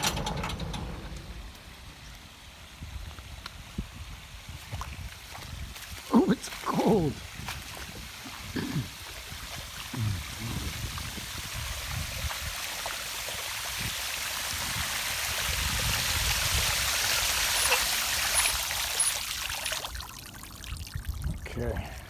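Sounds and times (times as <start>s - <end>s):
irrigation water rushing and splashing: 0.0s - 21.0s.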